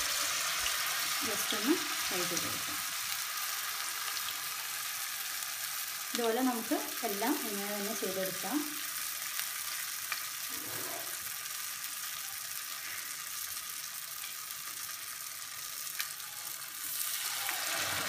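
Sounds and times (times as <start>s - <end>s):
leaves deep-frying in oil: 0.0s - 18.0s.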